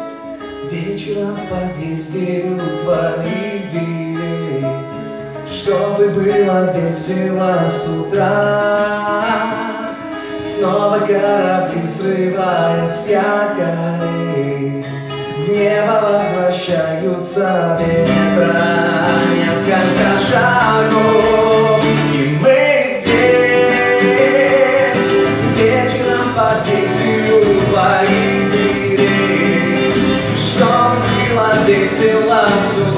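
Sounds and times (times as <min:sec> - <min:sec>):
acoustic guitars: 0:00.0 - 0:32.9
man singing: 0:00.0 - 0:32.9.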